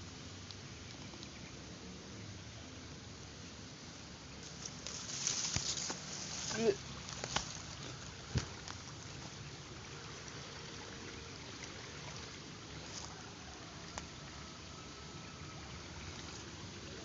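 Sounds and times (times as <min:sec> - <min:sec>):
river water running: 0:00.0 - 0:17.0.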